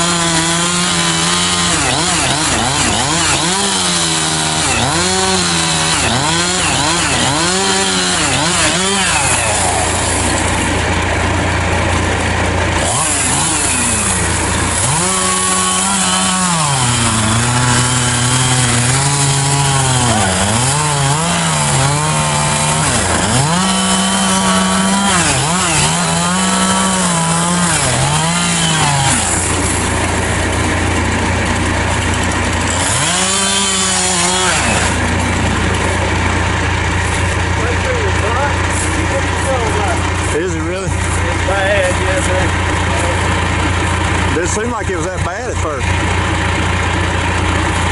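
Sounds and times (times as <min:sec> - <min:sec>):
chainsaw cutting wood: 0:00.0 - 0:47.9
chainsaw idling: 0:00.0 - 0:47.9.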